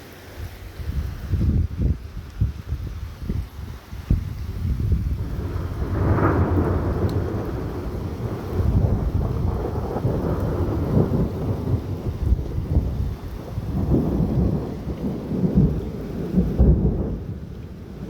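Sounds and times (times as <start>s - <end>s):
rain falling: 0.0s - 18.0s
thunder rumbling: 0.8s - 18.0s.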